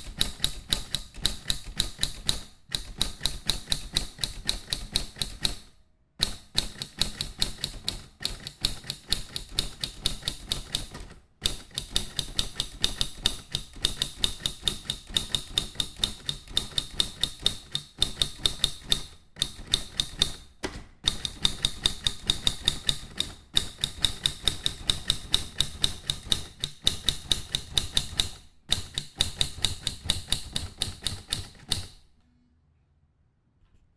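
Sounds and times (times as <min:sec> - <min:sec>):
typewriter keys clacking: 0:00.0 - 0:05.6, 0:06.2 - 0:20.4, 0:21.1 - 0:32.0.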